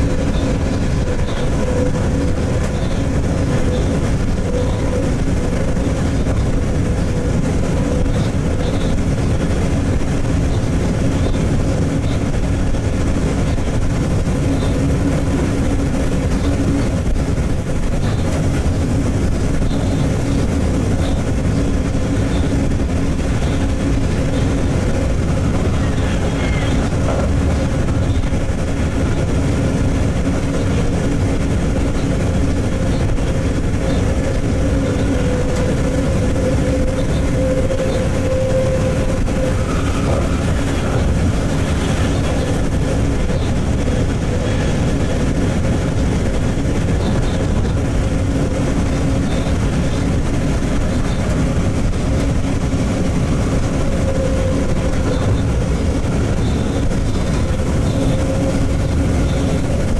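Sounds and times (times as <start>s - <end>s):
locomotive hum: 0.0s - 59.9s
train wheels rumbling on track: 0.0s - 59.9s.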